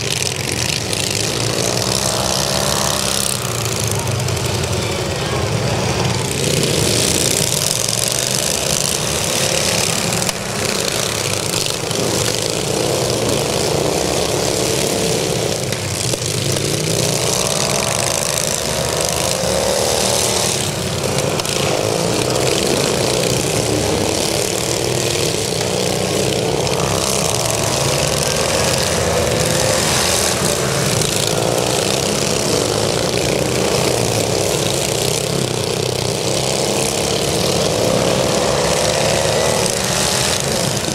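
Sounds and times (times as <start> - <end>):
lawn tractor engines racing: 0.0 - 40.9.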